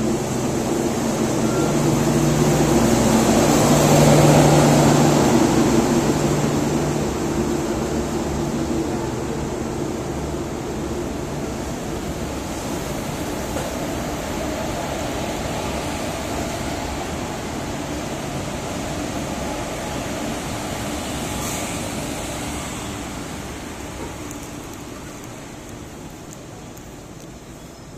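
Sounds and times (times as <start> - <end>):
locomotive wheels rumbling on rails: 0.0 - 27.9.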